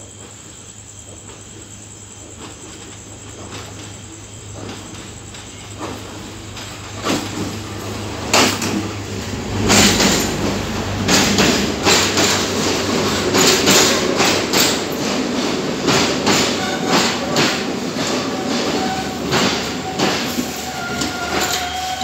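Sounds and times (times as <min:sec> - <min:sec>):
train carriages rumbling past: 0:00.0 - 0:22.0
wheel clatter over rail joints: 0:02.2 - 0:22.0.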